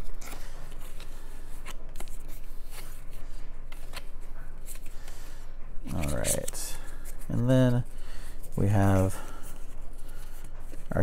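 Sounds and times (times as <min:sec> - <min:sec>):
paper cards rustling: 0:00.0 - 0:11.0.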